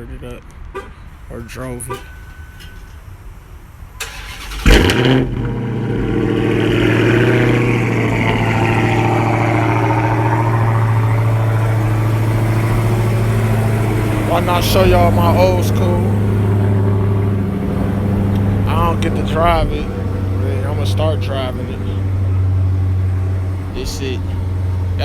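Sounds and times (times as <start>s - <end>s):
car engine starting and idling: 0.0s - 25.0s.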